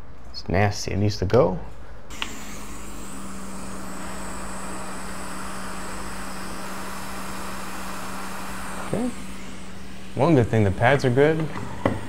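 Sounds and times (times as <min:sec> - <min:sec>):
hot air station hissing: 0:02.1 - 0:12.0.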